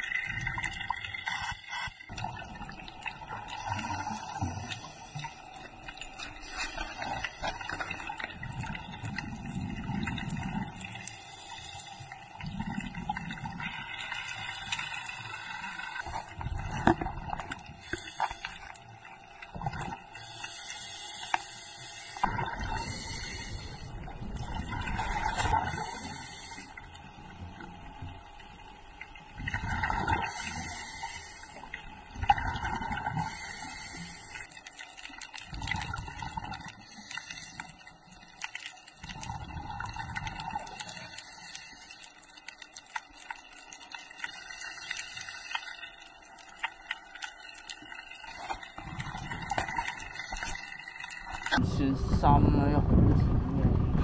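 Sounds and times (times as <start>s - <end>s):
underwater diver bubbles: 0.0s - 54.0s.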